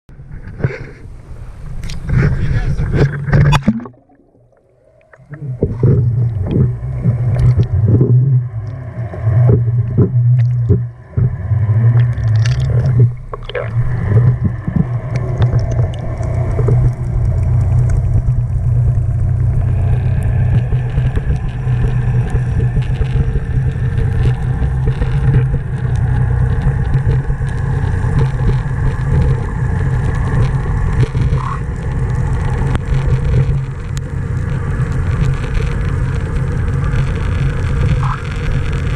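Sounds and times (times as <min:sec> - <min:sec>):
low underwater hum: 0:00.1 - 0:38.9
water noise: 0:00.1 - 0:38.9.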